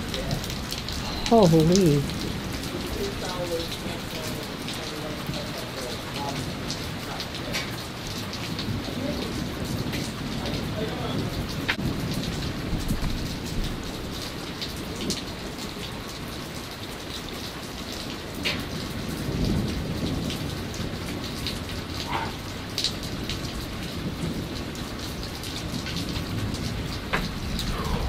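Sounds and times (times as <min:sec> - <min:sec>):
heavy rain pouring: 0:00.0 - 0:28.0
low rumble of thunder: 0:00.0 - 0:28.0
raindrops ticking close by: 0:00.0 - 0:28.0.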